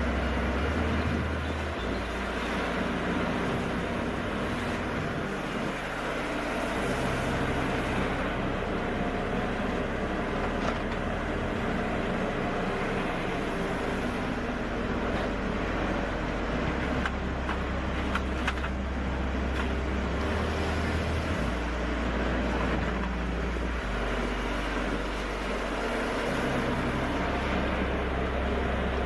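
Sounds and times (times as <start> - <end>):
wood-processing machine humming: 0.0 - 29.0.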